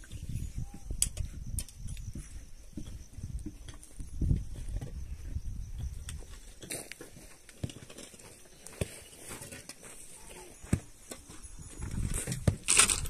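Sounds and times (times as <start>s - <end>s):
knocks and scuffs on stony dirt: 1.2s - 13.0s.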